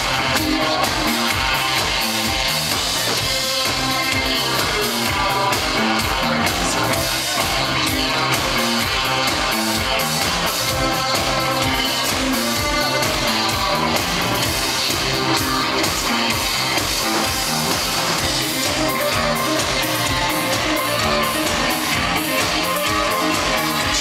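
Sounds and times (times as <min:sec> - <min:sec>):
live dance-punk band: 0:00.0 - 0:24.0.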